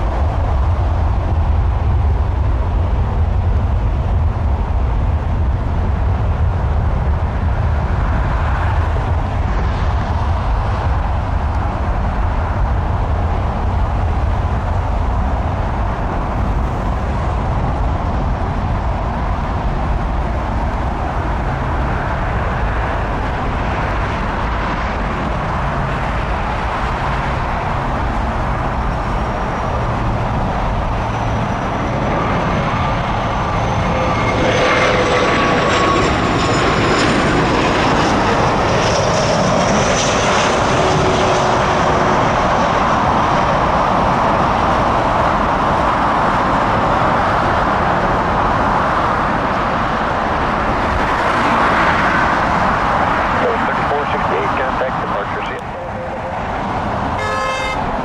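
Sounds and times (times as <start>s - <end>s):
jet airliner engines rumbling: 0.0s - 58.0s.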